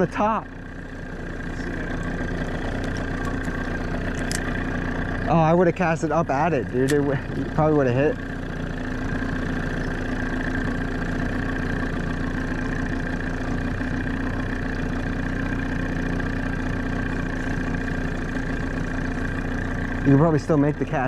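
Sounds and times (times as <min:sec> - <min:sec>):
boat motor humming with whine: 0:00.0 - 0:21.0.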